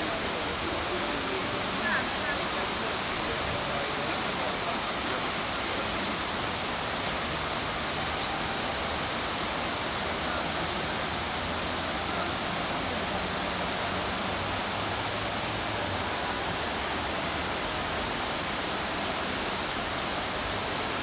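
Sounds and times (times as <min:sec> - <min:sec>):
river water rushing over stones: 0:00.0 - 0:21.0.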